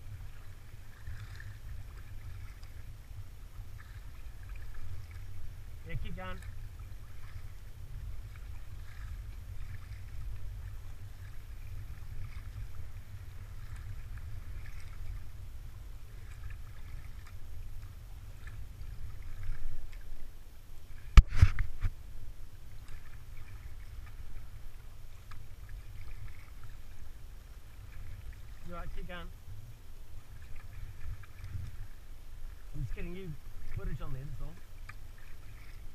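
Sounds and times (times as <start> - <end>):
kayak paddle splashing: 0.0 - 35.9.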